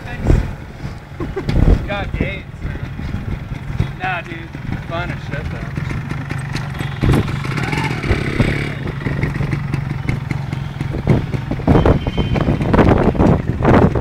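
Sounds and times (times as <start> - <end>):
two-stroke engine idling: 2.6 - 14.0.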